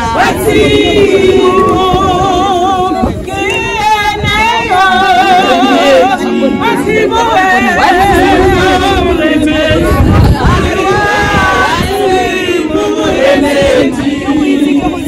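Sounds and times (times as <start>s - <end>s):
group of women singing: 0.0s - 15.0s.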